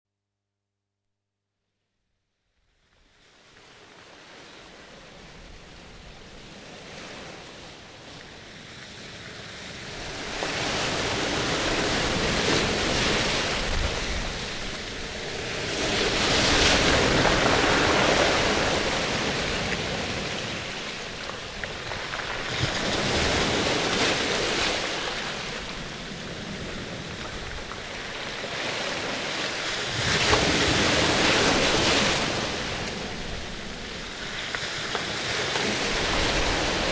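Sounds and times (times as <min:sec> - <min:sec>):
water rushing and splashing: 0:05.1 - 0:36.9.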